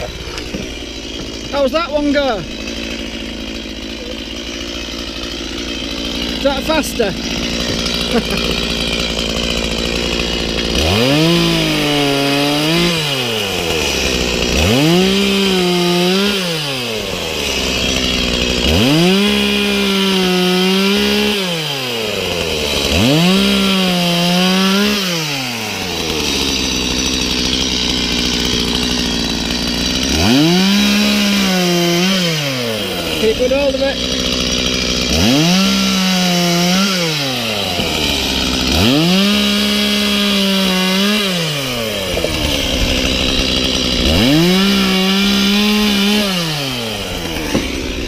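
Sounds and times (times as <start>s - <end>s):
electric chainsaw cutting wood: 0.0s - 48.0s.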